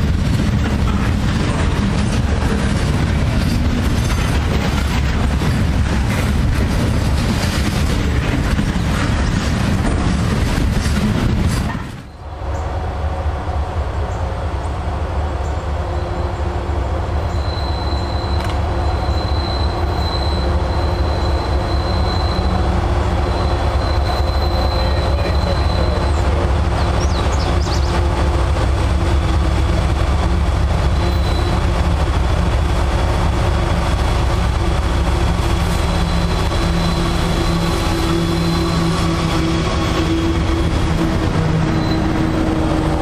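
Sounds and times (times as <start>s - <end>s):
freight train wheels rumbling on rail: 0.0s - 43.0s
locomotive rumble: 0.0s - 43.0s.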